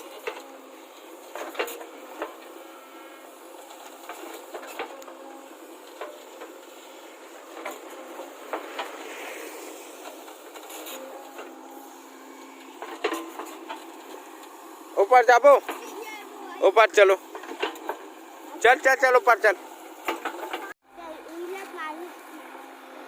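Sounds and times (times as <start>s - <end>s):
backhoe engine droning: 0.0s - 23.0s.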